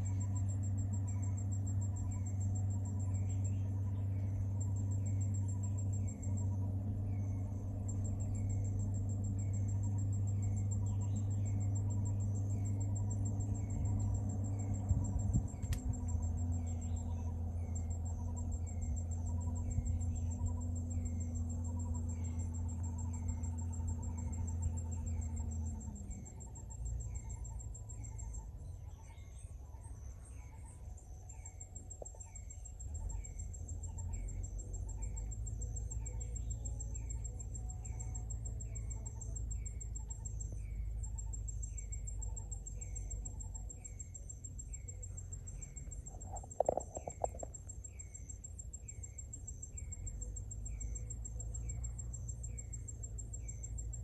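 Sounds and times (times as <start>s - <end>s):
insect chirp: 0.0s - 54.0s
insects trilling: 0.0s - 54.0s
low hum: 0.0s - 54.0s.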